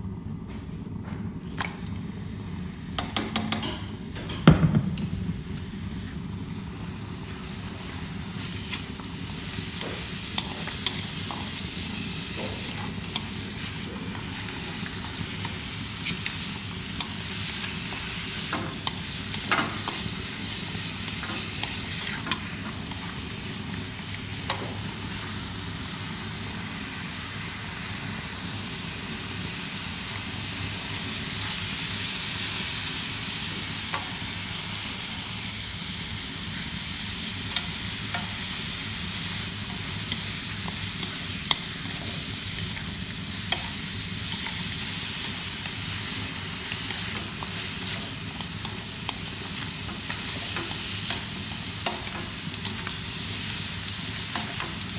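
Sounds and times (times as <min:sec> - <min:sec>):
meat sizzling in a wok: 0:05.7 - 0:54.9.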